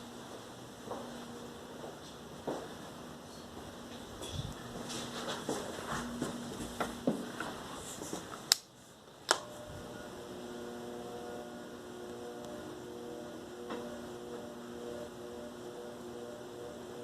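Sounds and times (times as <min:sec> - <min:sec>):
ceiling fan motor humming: 0:00.0 - 0:17.0.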